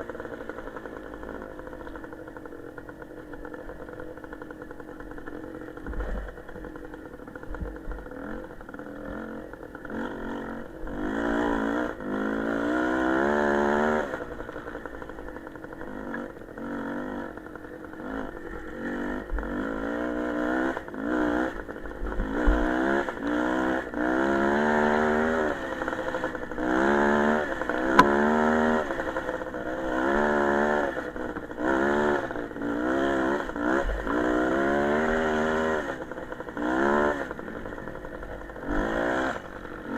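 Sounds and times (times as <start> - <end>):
small motorcycle engine accelerating: 0.0 - 39.9.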